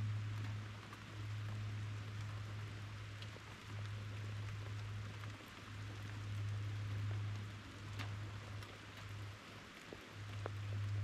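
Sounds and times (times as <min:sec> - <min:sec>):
low steady hum: 0:00.0 - 0:11.0
rain falling: 0:00.0 - 0:11.0.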